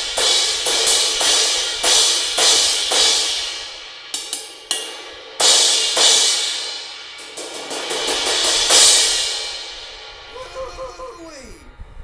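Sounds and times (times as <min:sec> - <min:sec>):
crash cymbal struck: 0:00.0 - 0:10.6.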